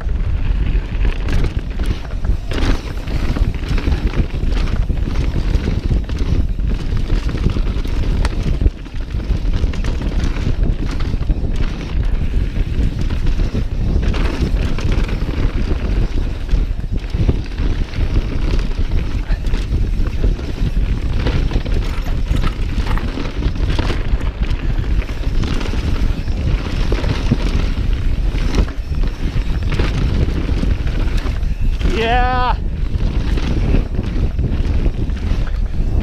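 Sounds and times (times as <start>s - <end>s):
bike rattling and knocking: 0.0s - 36.0s
bike tyre rumble on dirt: 0.0s - 36.0s
wind on microphone: 0.0s - 36.0s.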